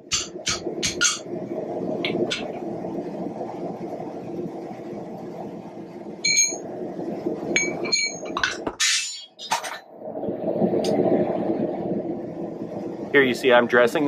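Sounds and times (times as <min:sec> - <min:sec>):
low rushing noise: 0:00.0 - 0:08.6, 0:09.8 - 0:14.0.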